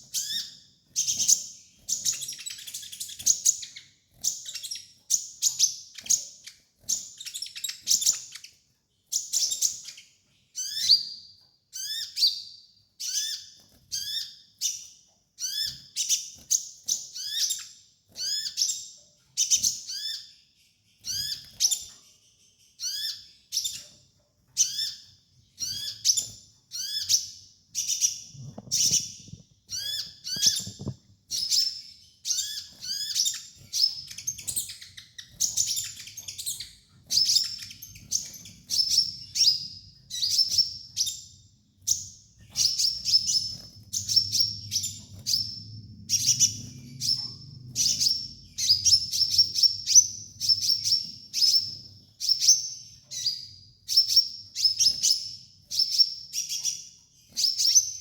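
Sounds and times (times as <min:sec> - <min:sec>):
sunbird chirping: 0:00.0 - 0:58.0.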